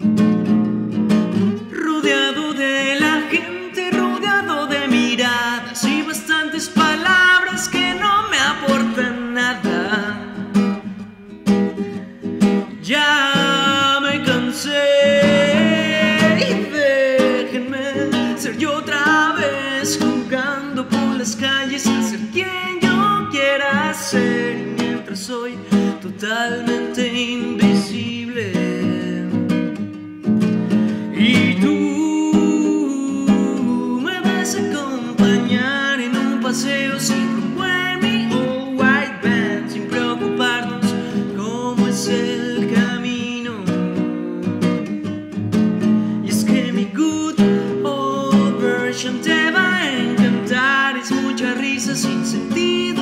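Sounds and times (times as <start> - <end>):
nylon-string guitar: 0.0 - 53.0
man singing: 1.6 - 11.1, 12.4 - 29.7, 30.9 - 45.0, 46.0 - 53.0.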